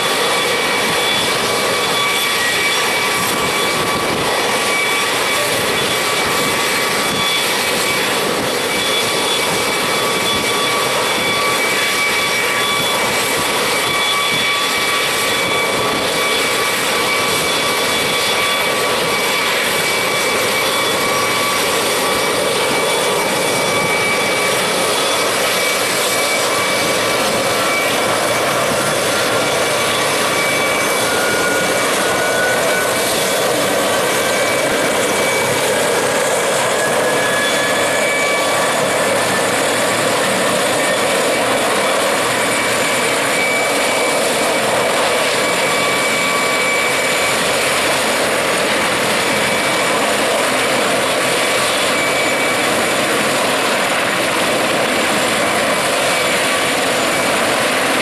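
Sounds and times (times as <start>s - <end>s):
helicopter rotor rush: 0.0s - 58.0s
helicopter turbine whine: 0.0s - 58.0s.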